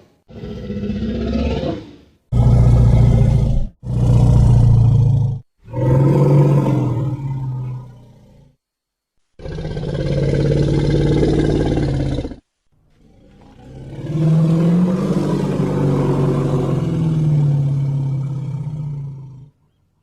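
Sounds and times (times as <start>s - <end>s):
dinosaur roar: 0.3s - 8.5s, 9.4s - 12.4s, 13.0s - 19.6s.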